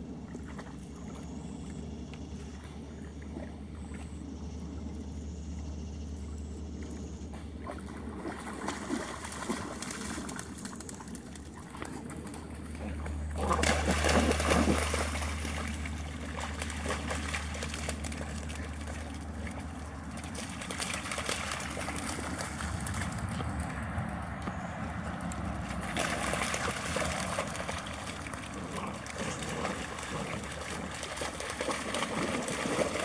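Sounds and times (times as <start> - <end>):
dogs splashing through water: 0.0 - 33.0
steady low hum: 0.0 - 33.0.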